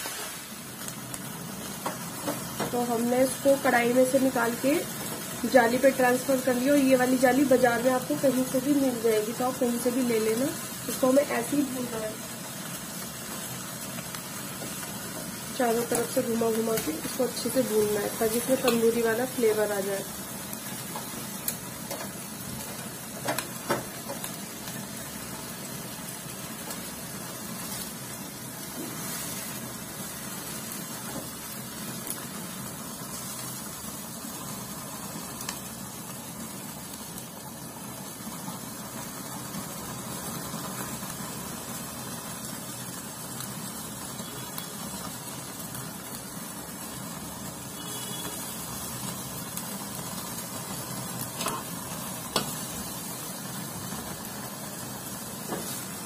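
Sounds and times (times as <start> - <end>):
chicken sizzling on grill: 0.0 - 56.0
gas burner hiss: 0.0 - 56.0.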